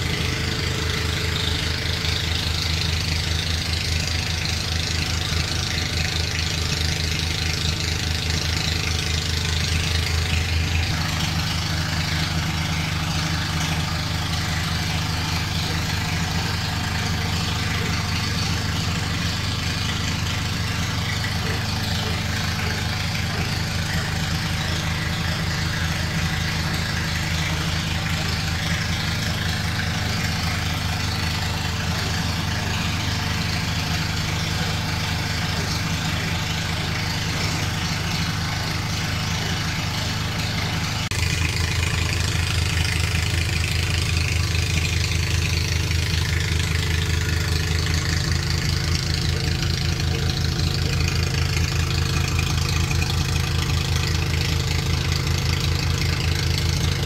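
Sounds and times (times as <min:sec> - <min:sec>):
insulation blowing machine running: 0:00.0 - 0:57.0.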